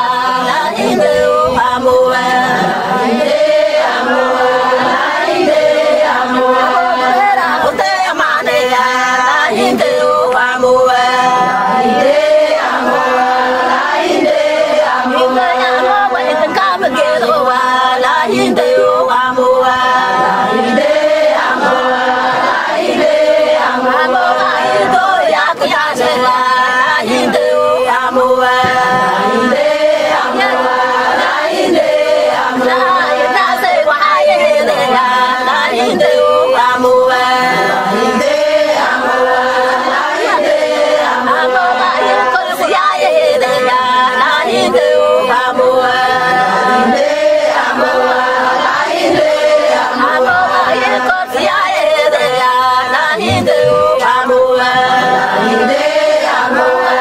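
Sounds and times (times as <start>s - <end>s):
group of voices singing: 0.0s - 57.0s.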